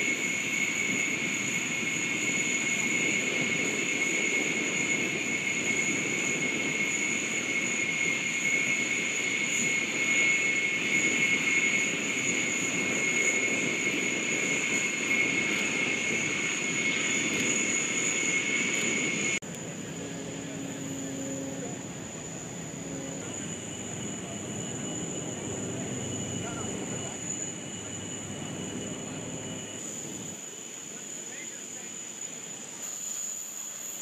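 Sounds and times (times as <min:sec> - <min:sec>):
propeller plane engines droning: 0:00.0 - 0:34.0.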